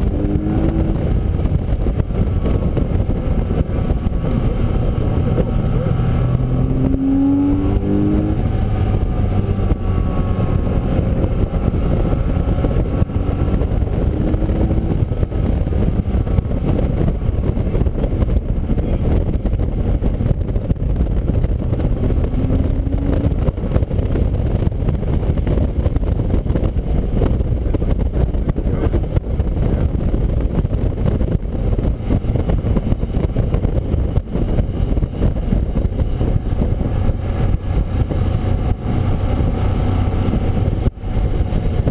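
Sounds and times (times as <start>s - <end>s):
race car engine at speed: 0.0s - 41.9s.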